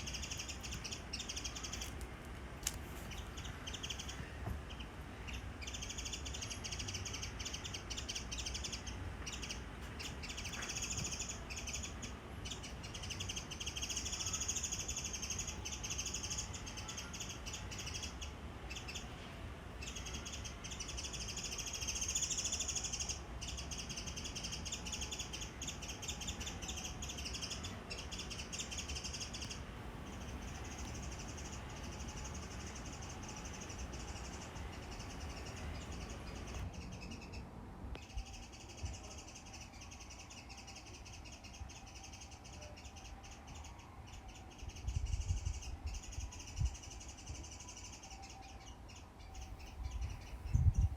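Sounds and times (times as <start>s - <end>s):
birds calling: 0.0s - 50.9s.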